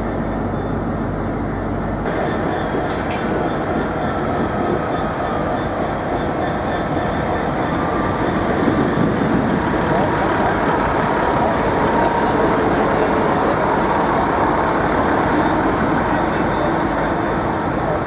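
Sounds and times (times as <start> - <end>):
diesel train rumble: 0.0 - 18.0.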